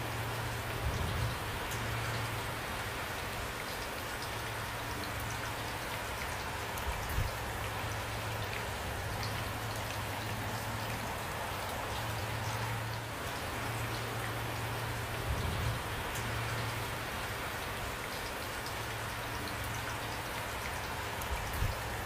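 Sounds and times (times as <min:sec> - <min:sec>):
raindrops pattering: 0:00.0 - 0:22.0.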